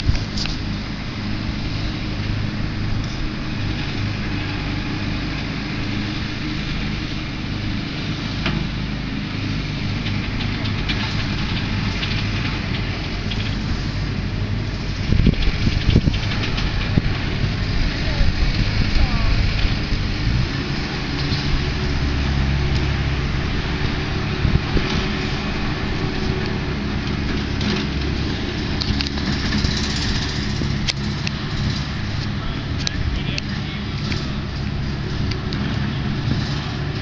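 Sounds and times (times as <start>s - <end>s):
irregular low rumbling: 0.0s - 37.0s
low mechanical hum: 0.0s - 37.0s.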